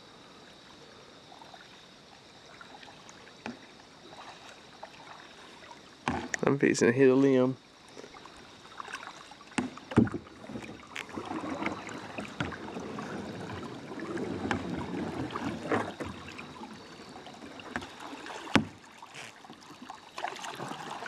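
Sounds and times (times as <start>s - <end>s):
kayak paddle strokes in water: 1.3s - 21.0s.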